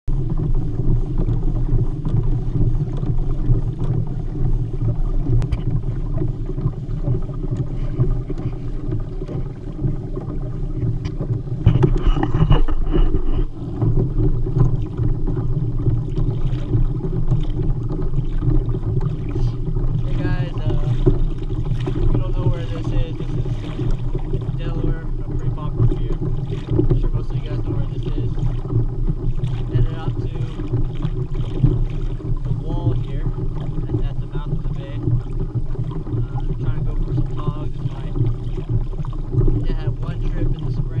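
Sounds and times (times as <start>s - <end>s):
water rumbling along hull: 0.0s - 41.0s
wind on microphone: 0.1s - 41.0s.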